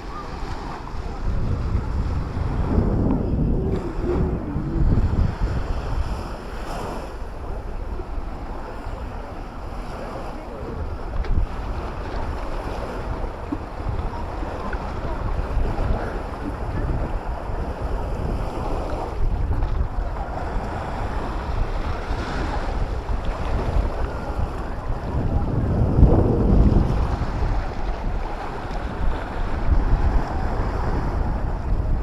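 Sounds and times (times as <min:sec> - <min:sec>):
sea waves washing onto shore: 0:00.0 - 0:32.0
wind buffeting microphone: 0:00.0 - 0:32.0.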